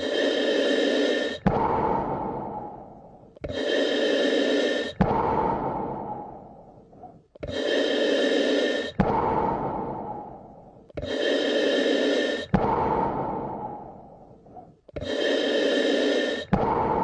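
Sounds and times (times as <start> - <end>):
deep human breathing: 0.0 - 17.0.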